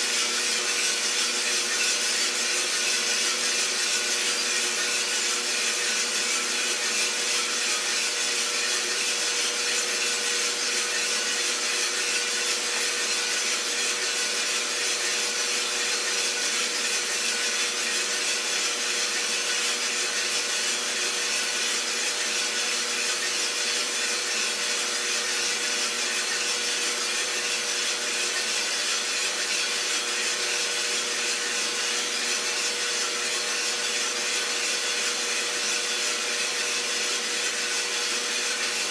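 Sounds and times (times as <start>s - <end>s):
coffee roaster rushing and scraping: 0.0s - 38.9s.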